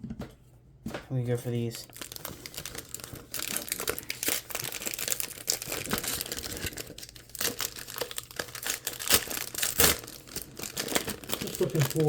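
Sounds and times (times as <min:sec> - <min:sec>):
foil wrapper crinkling and tearing: 0:01.7 - 0:12.0.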